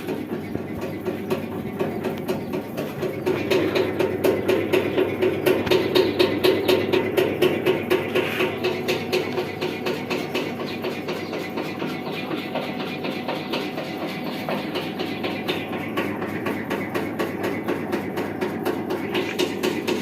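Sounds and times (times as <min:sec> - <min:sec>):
sifting machine rattling: 0:00.0 - 0:20.0.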